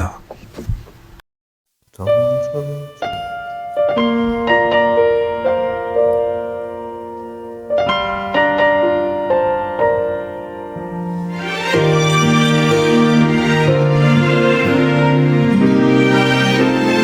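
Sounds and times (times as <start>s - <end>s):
slow gentle piano melody: 2.0s - 17.0s.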